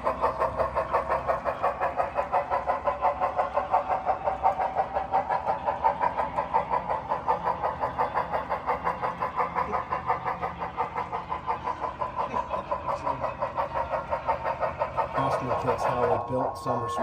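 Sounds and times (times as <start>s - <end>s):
model train rhythmic pulsing: 0.0s - 17.0s.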